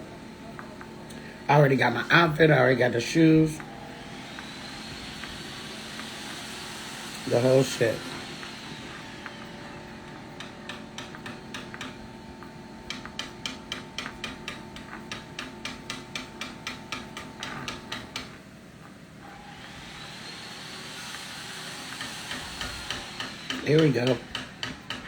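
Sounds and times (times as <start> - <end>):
steady room hum: 0.0 - 25.0.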